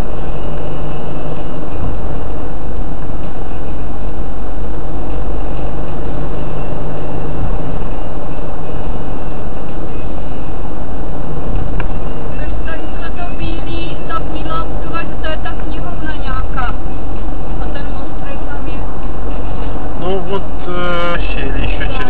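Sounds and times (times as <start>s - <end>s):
car engine and tyre noise: 0.0s - 22.0s.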